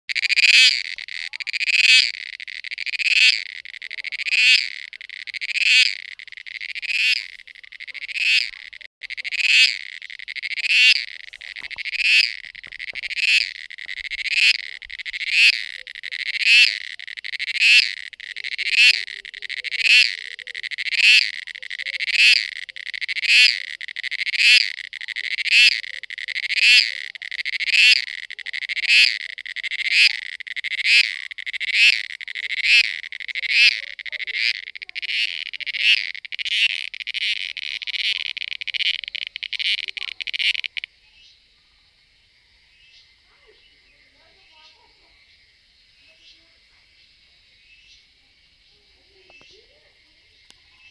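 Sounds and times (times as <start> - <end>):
cicada buzzing: 0.1 - 40.9.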